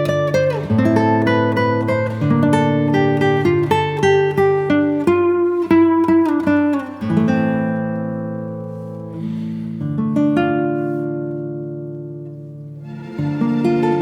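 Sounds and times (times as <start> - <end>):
plucked acoustic guitar melody: 0.0 - 14.0.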